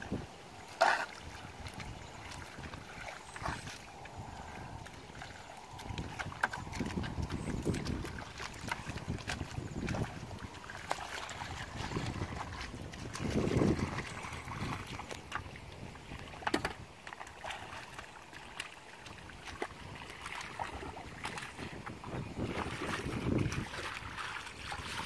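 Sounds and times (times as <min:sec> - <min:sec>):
muddy water sloshing and splashing: 0:00.0 - 0:25.0
wind rumble on microphone: 0:00.0 - 0:25.0.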